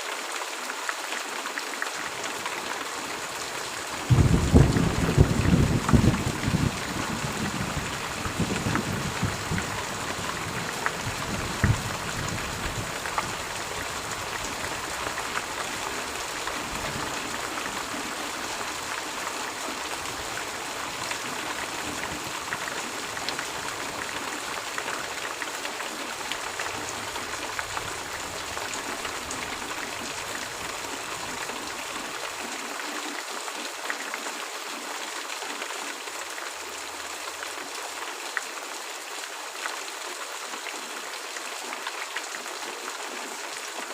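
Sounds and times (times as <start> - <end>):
steady rain hissing: 0.0 - 43.9.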